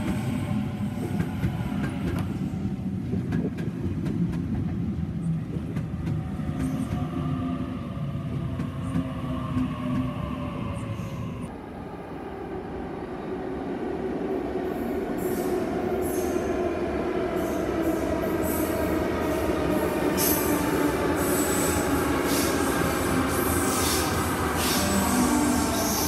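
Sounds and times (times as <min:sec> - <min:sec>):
electric train arriving: 0:00.0 - 0:26.0.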